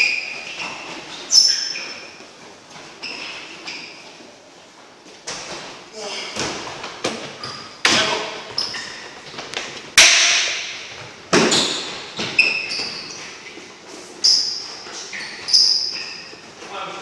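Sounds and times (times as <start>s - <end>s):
sneaker squeaks: 0.0s - 4.5s, 5.2s - 9.6s, 10.7s - 17.0s.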